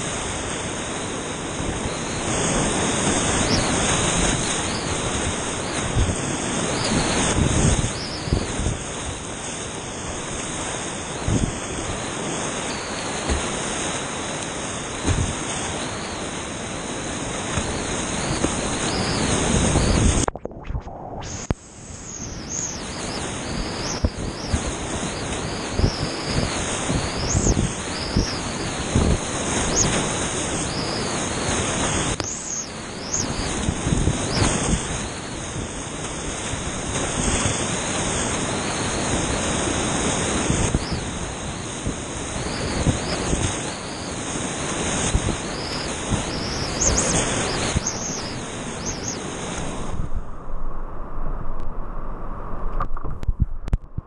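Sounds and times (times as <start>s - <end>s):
water splashing against boat: 0.0s - 20.5s, 21.4s - 50.2s.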